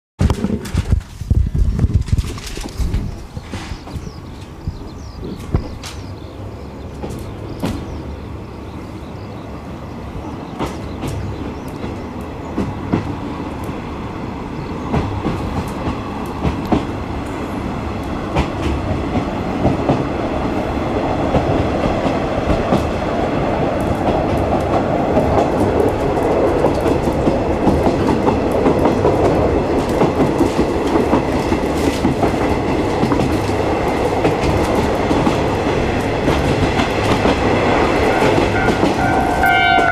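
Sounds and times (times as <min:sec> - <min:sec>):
train wheels clicking over rail joints: 0:00.2 - 0:08.1, 0:10.2 - 0:14.0, 0:14.6 - 0:39.9
train running rumble: 0:00.2 - 0:39.9.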